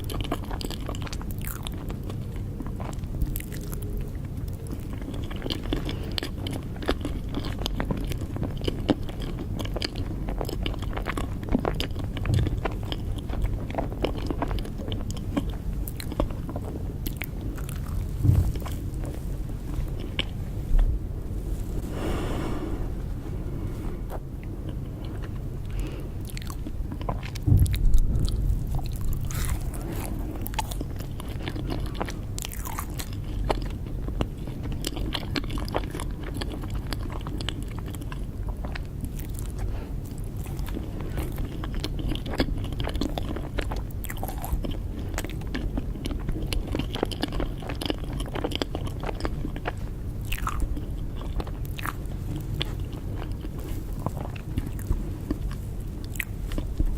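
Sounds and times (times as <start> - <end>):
chewing and biting cake: 0.0 - 21.4, 22.6 - 56.9.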